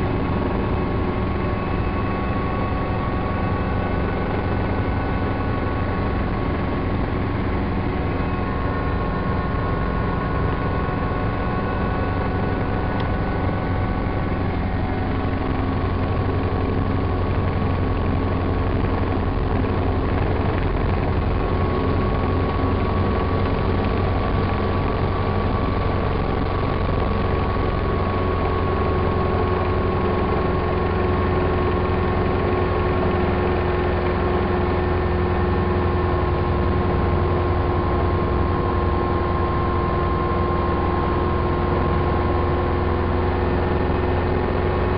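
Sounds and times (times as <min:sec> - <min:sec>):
helicopter engine and rotor: 0:00.0 - 0:44.9.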